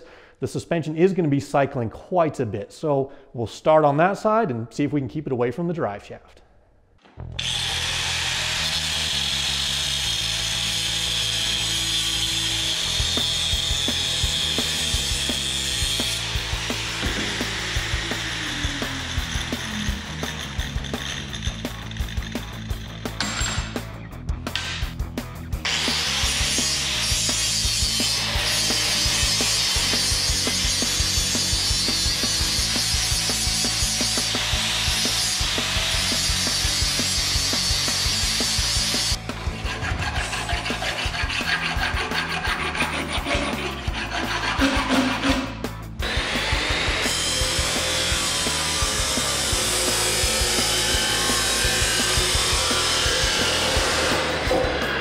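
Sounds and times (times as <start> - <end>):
angle grinder grinding metal: 7.4 - 23.9, 25.6 - 55.0.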